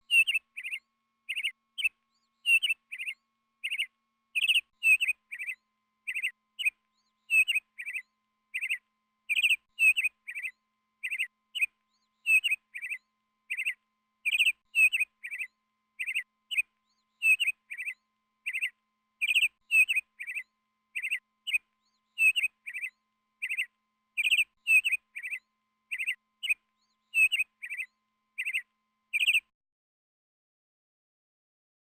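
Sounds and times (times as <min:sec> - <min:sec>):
bird chirping: 0:00.0 - 0:29.5.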